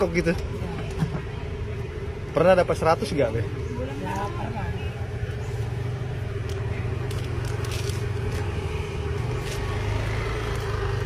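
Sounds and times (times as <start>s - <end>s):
low vehicle engine rumble: 0.0s - 11.0s
steady hum: 0.0s - 11.0s.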